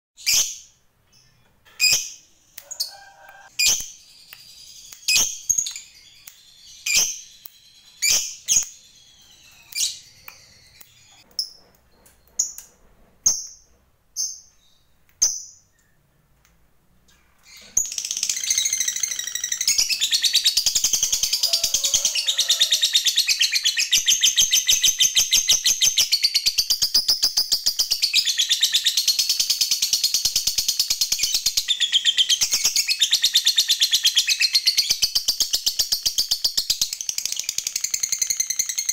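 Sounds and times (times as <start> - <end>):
lovebird chirping and trilling: 0.2 - 11.6, 17.1 - 38.9.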